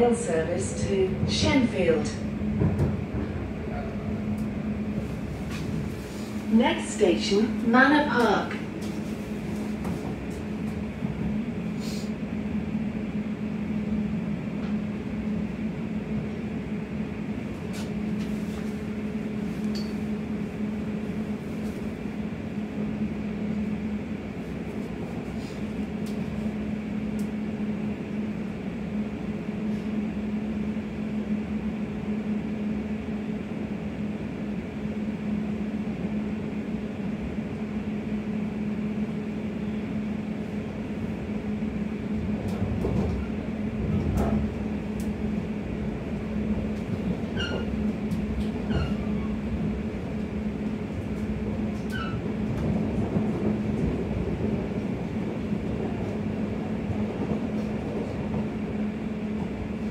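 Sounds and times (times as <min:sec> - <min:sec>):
electric train running hum: 0:00.0 - 0:59.9
train rolling noise: 0:00.0 - 0:59.9.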